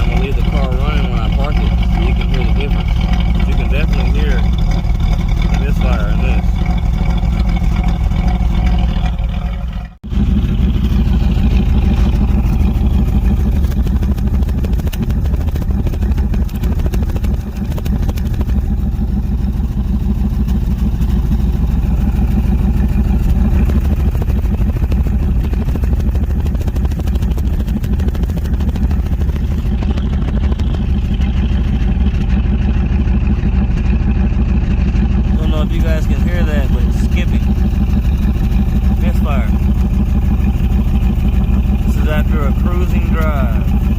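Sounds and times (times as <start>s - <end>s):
misfiring car engine rumbling: 0.0s - 43.9s.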